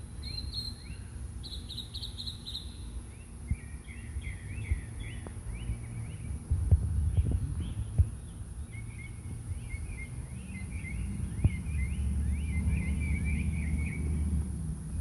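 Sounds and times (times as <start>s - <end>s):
low outdoor rumble: 0.0s - 15.0s
songbird chirping: 0.0s - 15.0s.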